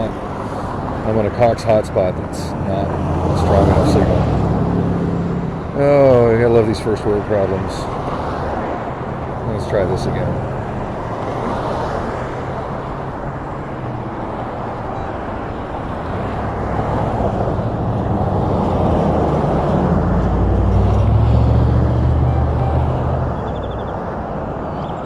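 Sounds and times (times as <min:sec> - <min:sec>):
vehicle passing by: 0:02.2 - 0:06.7, 0:07.6 - 0:24.7.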